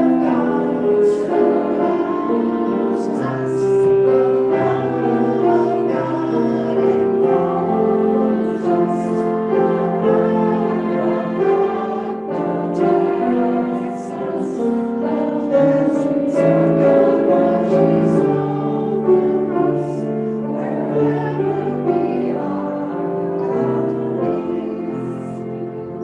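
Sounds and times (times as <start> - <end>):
piano accompaniment: 0.0 - 26.0
voices singing slow song: 0.0 - 26.0.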